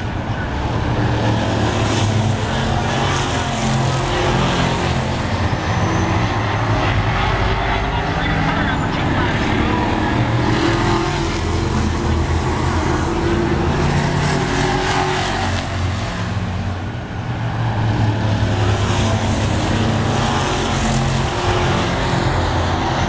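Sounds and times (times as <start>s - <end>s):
racing truck engines passing: 0.0s - 23.0s.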